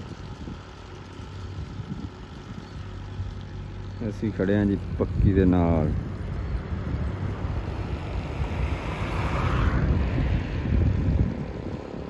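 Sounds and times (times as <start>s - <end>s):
vehicle engine rumble: 0.0s - 12.0s
wind buffeting microphone: 0.0s - 12.0s.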